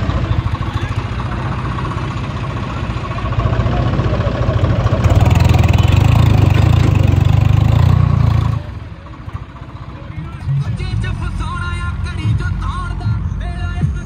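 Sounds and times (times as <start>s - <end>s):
diesel tractor engine revving: 0.0s - 14.0s.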